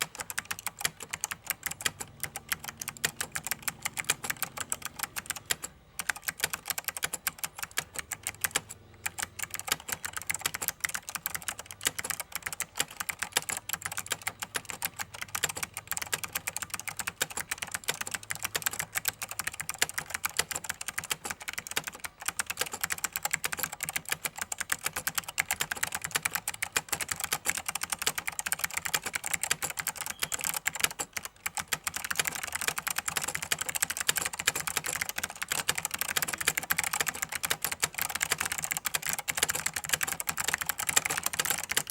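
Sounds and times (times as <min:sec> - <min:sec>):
mechanical keyboard clicks: 0:00.0 - 0:41.9.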